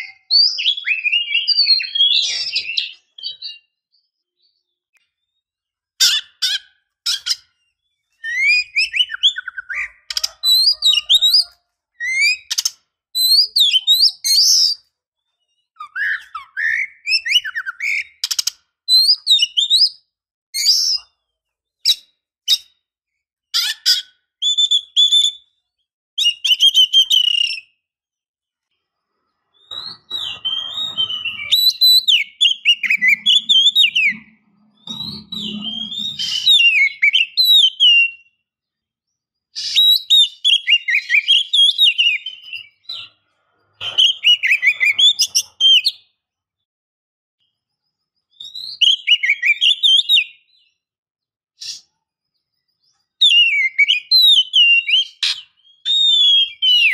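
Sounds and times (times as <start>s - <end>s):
bird singing whistles and chirps: 0.0s - 5.5s, 6.1s - 21.2s, 23.6s - 27.8s, 29.3s - 38.5s, 39.5s - 43.2s, 43.8s - 46.2s, 47.4s - 50.9s, 51.6s - 56.9s.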